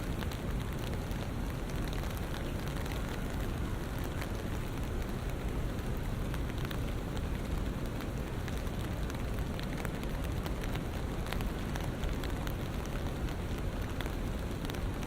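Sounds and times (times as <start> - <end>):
low rumble of city traffic: 0.0 - 15.0
rain hissing on street: 0.0 - 15.0.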